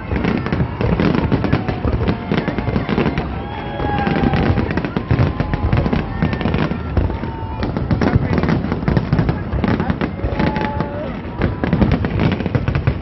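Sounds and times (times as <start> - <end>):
fireworks crackling: 0.0 - 13.0
fireworks shells exploding: 0.0 - 13.0.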